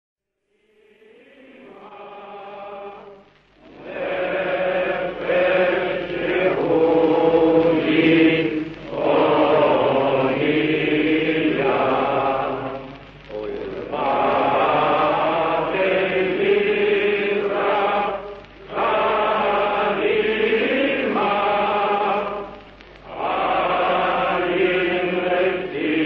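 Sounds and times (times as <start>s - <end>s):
chanted singing: 0.6s - 26.0s.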